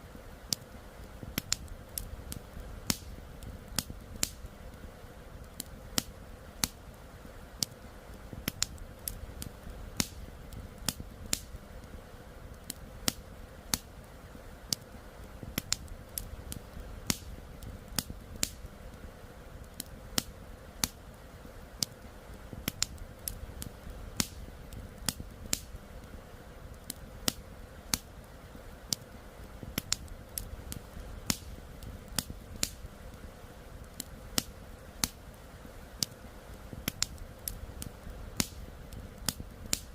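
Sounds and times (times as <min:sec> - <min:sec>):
campfire crackling: 0:00.0 - 0:39.9
low steady rush: 0:00.0 - 0:39.9.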